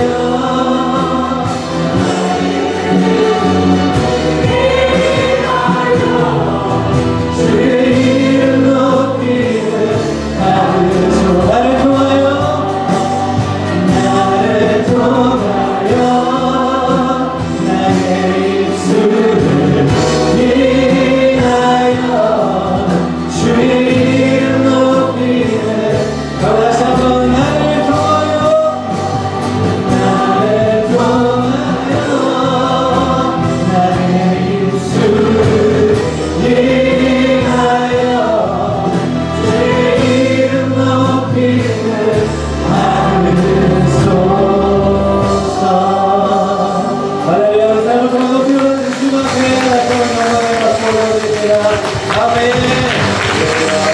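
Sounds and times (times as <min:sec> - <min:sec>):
choir singing a hymn: 0:00.0 - 0:53.9.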